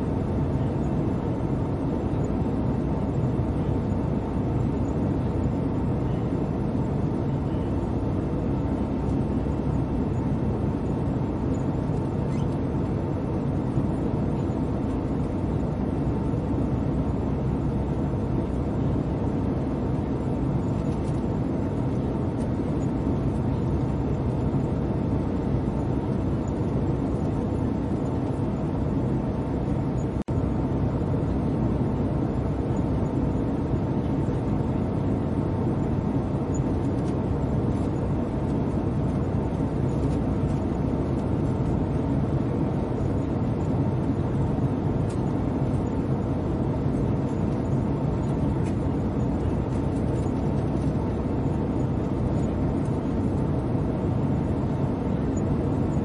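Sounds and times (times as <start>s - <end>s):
airliner cabin noise: 0.0s - 56.0s
faint steady hum: 0.0s - 56.0s.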